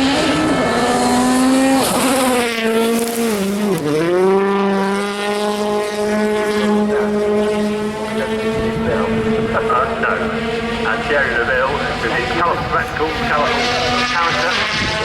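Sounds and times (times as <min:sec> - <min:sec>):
rally car engine running hard: 0:00.0 - 0:15.0.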